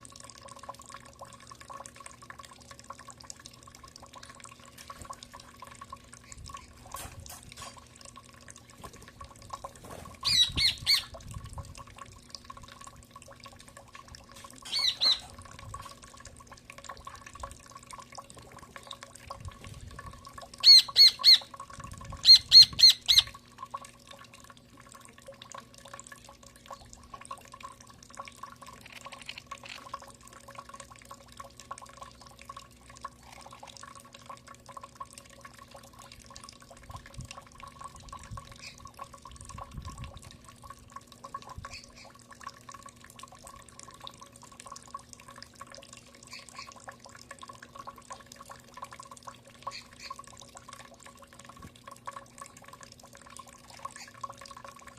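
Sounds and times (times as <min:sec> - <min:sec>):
faint steady hum: 0:00.0 - 0:54.9
light ticking or dripping: 0:00.0 - 0:54.9.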